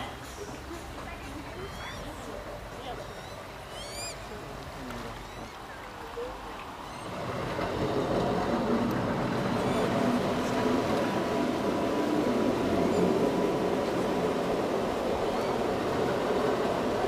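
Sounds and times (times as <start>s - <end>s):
boat motor running: 0.0s - 17.0s
water against hull: 0.0s - 17.0s.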